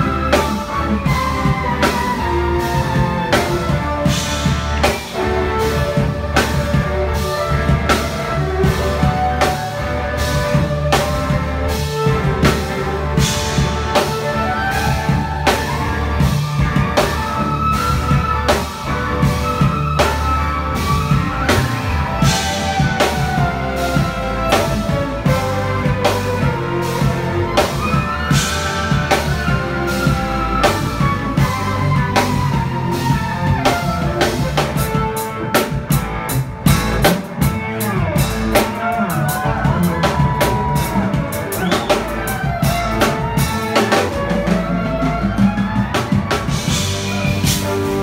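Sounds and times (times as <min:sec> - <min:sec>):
drum kit beat: 0:00.0 - 0:48.0
jazz band playing: 0:00.0 - 0:48.0.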